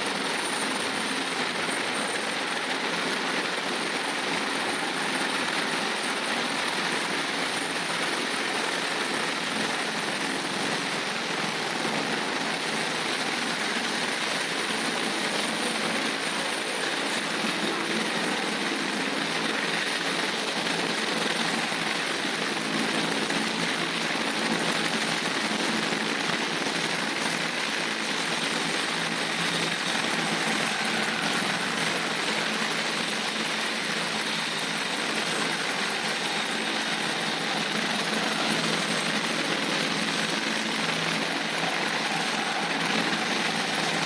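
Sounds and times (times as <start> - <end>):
helicopter drone: 0.0 - 44.0.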